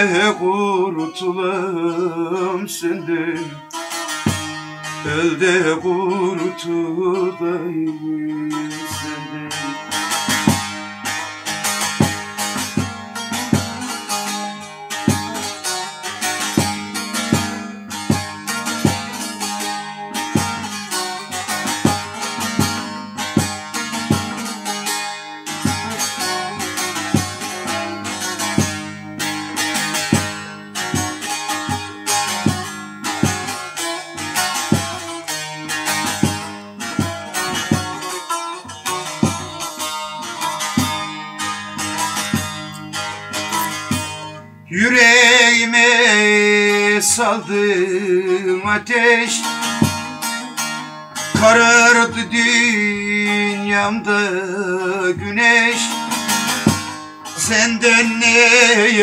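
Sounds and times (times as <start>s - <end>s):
plucked long-necked lute: 0.0s - 59.0s.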